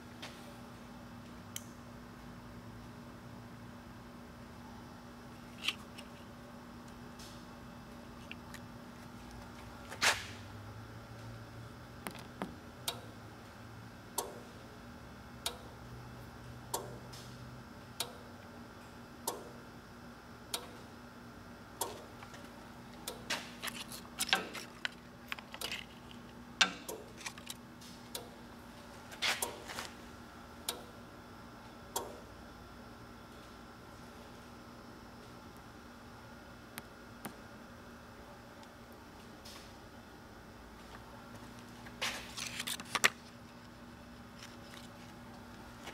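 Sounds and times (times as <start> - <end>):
steady machine hum: 0.0 - 45.9.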